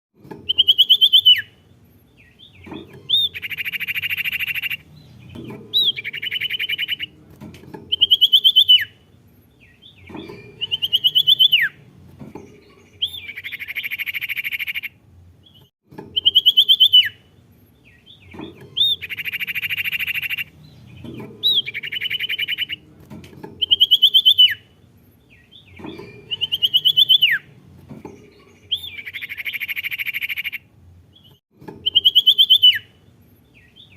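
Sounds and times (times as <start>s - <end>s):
songbird whistle and buzzing trill: 0.4s - 7.1s, 7.8s - 11.8s, 15.5s - 22.8s, 23.4s - 30.6s, 31.2s - 33.9s.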